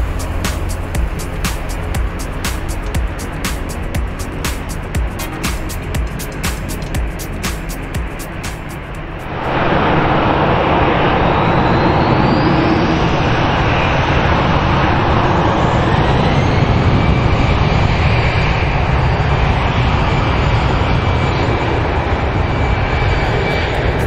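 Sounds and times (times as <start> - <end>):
jet engines roaring: 0.0 - 24.0
jet fan whine: 0.0 - 24.0.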